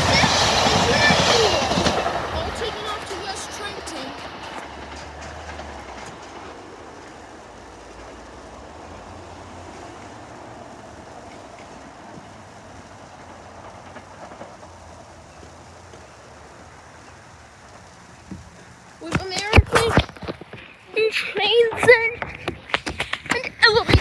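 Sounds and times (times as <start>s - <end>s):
electric train pulling away: 0.0s - 21.0s
wheels clicking over rail joints: 0.0s - 24.0s.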